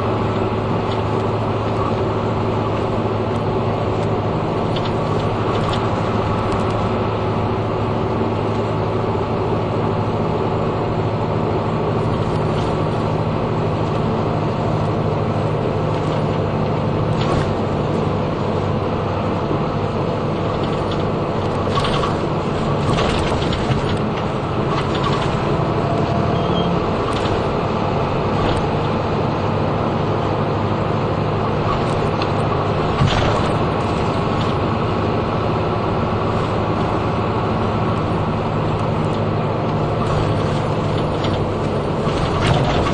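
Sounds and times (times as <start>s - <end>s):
bus body rattles and clicks: 0.0s - 42.9s
bus diesel engine hum: 0.0s - 42.9s
road noise: 0.0s - 42.9s.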